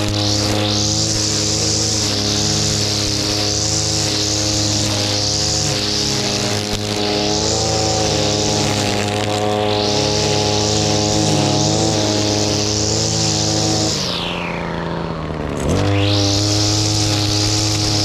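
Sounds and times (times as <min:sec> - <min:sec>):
brushcutter cutting grass: 0:00.0 - 0:18.0.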